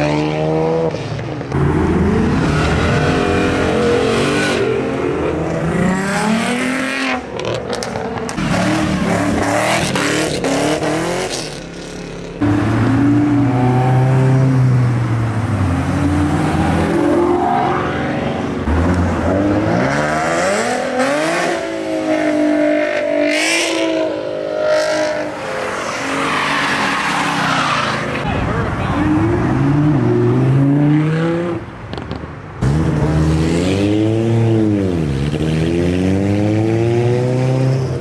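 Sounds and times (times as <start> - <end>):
cars accelerating engines revving: 0.0 - 38.0.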